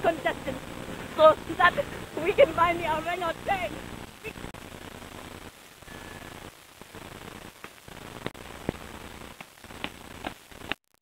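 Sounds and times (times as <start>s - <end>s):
camcorder microphone hiss: 0.0s - 11.0s.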